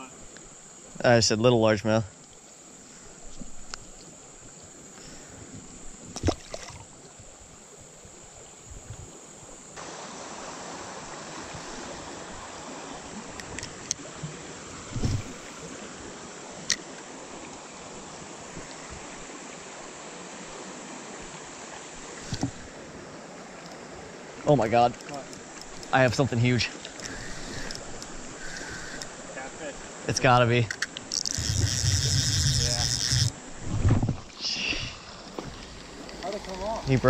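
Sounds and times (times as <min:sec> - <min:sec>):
creek water flowing: 0:00.0 - 0:37.0.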